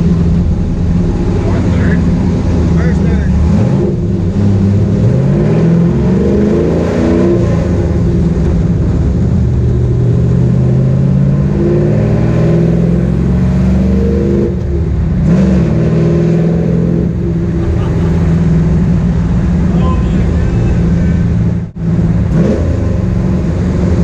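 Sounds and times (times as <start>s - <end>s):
truck engine accelerating: 0.0s - 24.0s.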